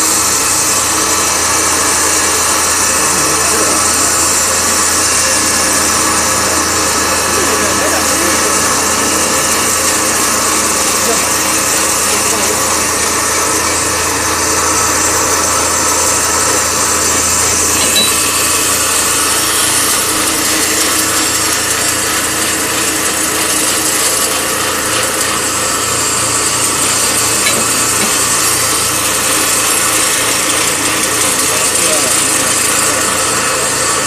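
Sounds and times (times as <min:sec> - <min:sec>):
band saw cutting frozen meat: 0:00.0 - 0:34.0.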